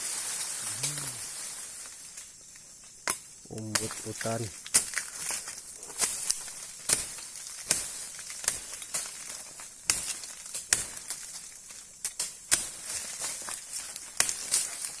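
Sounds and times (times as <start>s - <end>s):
dry rustle: 0.0s - 15.0s
plant stalks cracking and snapping: 0.3s - 15.0s.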